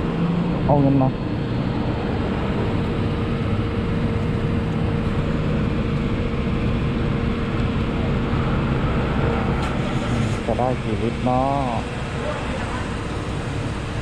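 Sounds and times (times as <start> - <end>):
steady whine: 0.0 - 14.0.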